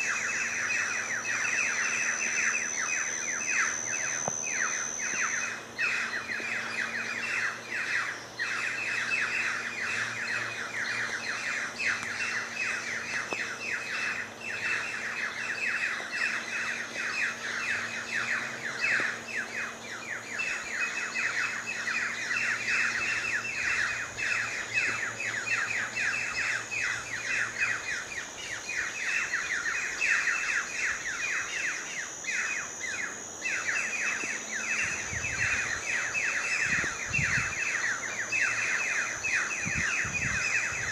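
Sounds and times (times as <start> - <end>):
birds chirping: 0.0 - 40.9
high steady whine: 0.0 - 40.9.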